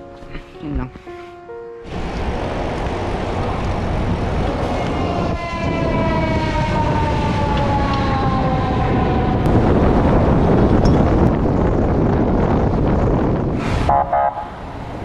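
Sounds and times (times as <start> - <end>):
wind rushing over microphone: 1.8 - 15.0.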